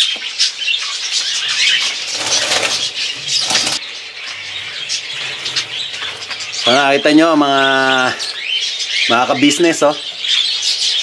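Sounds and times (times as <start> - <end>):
budgerigars chirping and chattering: 0.0 - 11.0.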